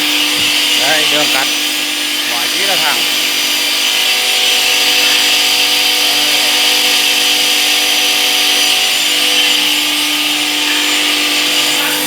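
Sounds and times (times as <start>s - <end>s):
blade grinding through stone: 0.0s - 12.0s
saw motor hum: 0.0s - 12.0s.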